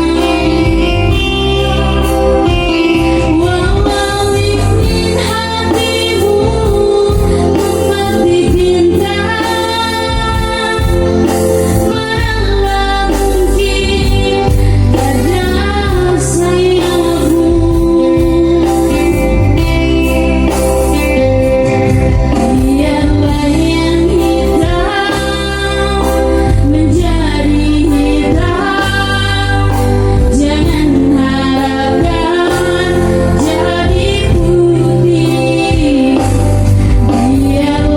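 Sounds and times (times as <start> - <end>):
instrumental backing with bass: 0.0 - 37.9
person singing: 0.0 - 37.9.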